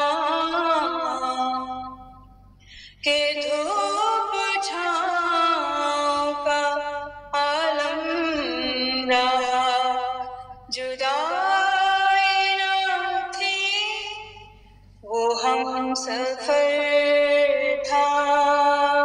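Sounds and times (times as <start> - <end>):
person singing unaccompanied: 0.0 - 2.0, 3.0 - 14.4, 15.0 - 19.0.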